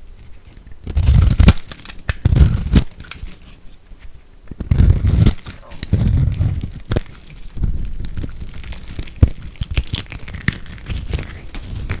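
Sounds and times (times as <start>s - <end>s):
dry soap crumbling and crackling: 0.0s - 3.6s, 4.5s - 12.0s.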